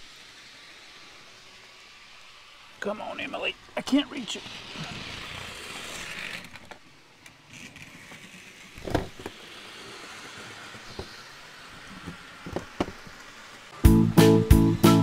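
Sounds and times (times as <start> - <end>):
model train motor whirring: 0.0 - 13.8.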